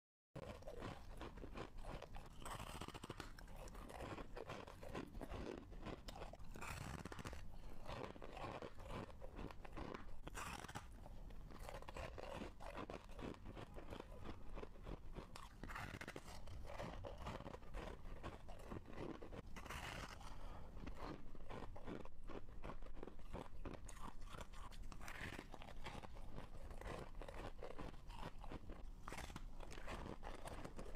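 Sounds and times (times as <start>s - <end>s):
person crunching frost: 0.4s - 30.9s.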